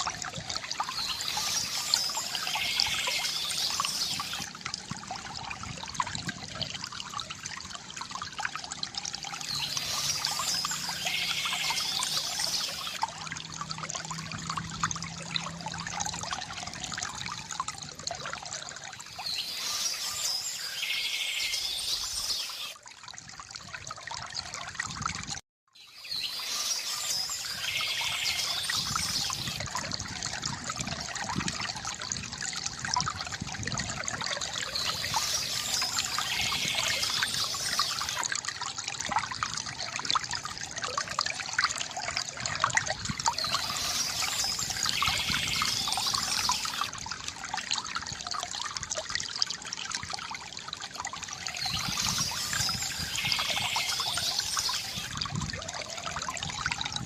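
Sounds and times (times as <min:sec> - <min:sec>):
water trickling from fountain: 0:00.0 - 0:57.0.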